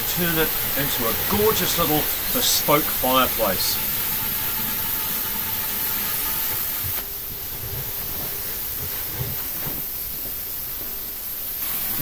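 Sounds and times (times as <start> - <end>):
plasma cutter hissing: 0.0 - 8.0, 8.6 - 12.0.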